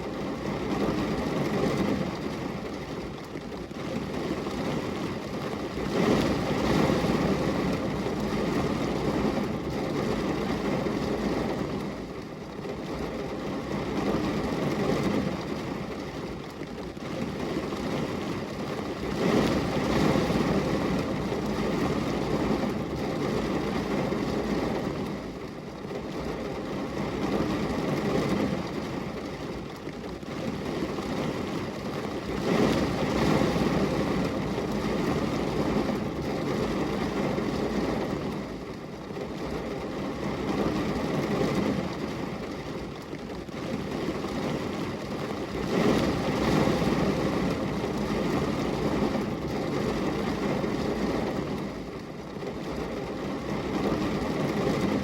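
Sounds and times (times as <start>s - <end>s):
rain on a glass window: 0.0s - 55.0s.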